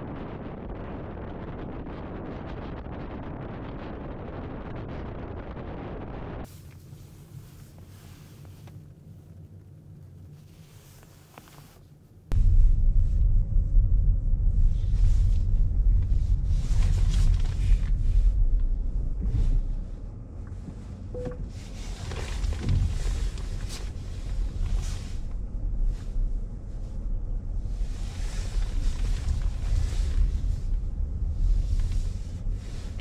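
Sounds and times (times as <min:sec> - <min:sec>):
wind buffeting microphone: 0:00.0 - 0:06.5, 0:12.3 - 0:33.0
car road rumble: 0:00.0 - 0:33.0.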